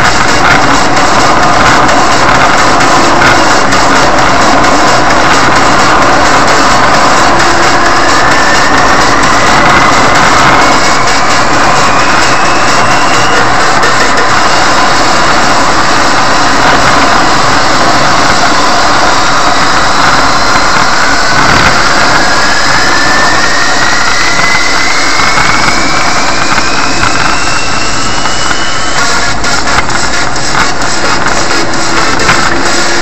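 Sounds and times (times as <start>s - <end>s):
engine and tyre noise on road: 0.0s - 33.0s
thin whine: 0.0s - 33.0s.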